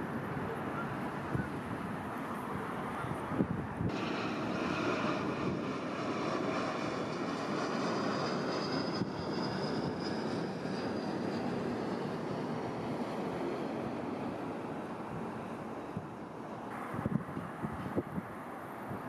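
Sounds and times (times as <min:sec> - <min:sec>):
jet aircraft engines passing overhead: 0:00.0 - 0:19.0.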